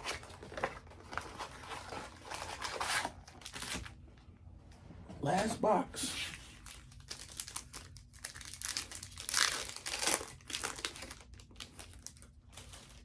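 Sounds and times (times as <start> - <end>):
packaging crinkling and tearing: 0.0 - 4.0, 6.4 - 13.0.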